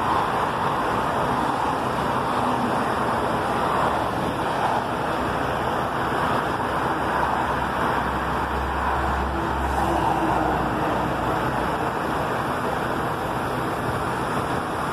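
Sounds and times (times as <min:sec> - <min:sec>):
road traffic noise: 0:00.0 - 0:14.9
truck engine rumble: 0:00.0 - 0:14.9.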